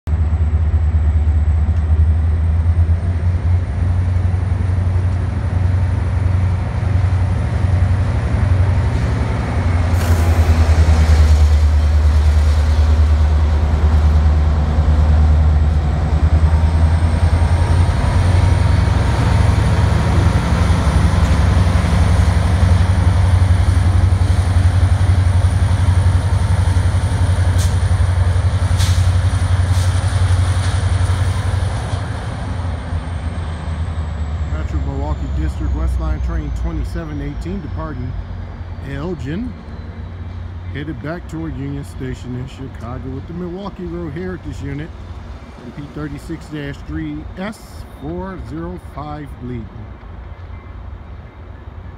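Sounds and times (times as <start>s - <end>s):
diesel locomotive engine drone: 0.1s - 51.9s.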